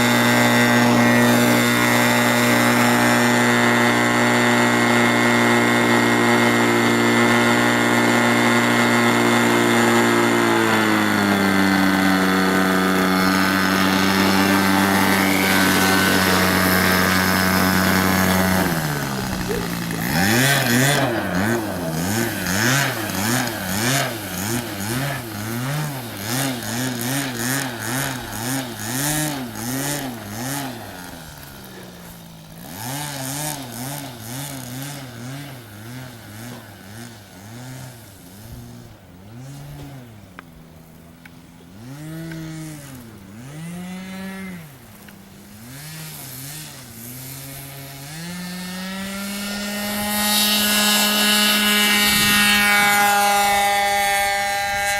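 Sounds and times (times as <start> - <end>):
model airplane engine flying by: 0.0 - 54.9.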